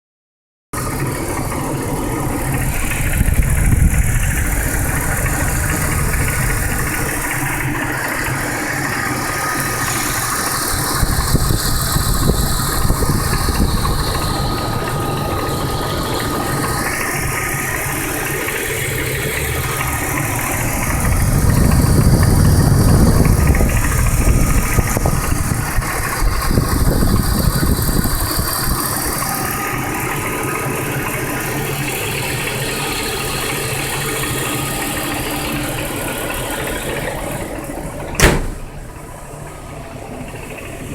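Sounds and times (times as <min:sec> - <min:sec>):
car engine running: 0:00.8 - 0:40.9
engine knocking and ticking: 0:00.8 - 0:40.9.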